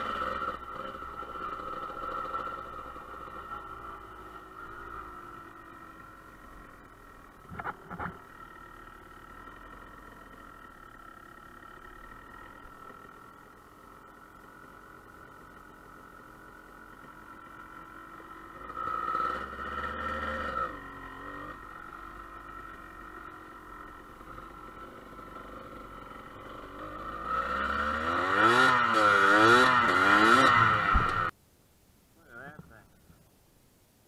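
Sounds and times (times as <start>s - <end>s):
dirt bike engine revving: 0.0s - 13.3s, 14.0s - 31.3s.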